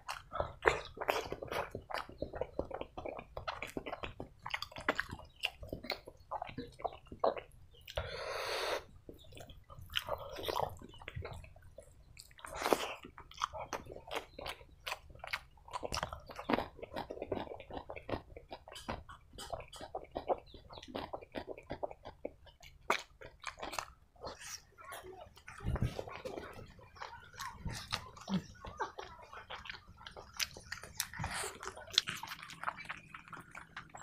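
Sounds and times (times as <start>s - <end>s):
chewing with lip smacks: 0.0s - 8.1s, 8.8s - 34.0s.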